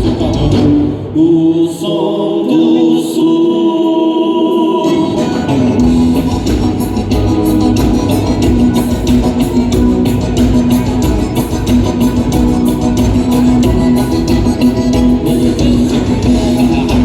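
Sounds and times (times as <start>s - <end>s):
live band with singing: 0.0s - 17.0s.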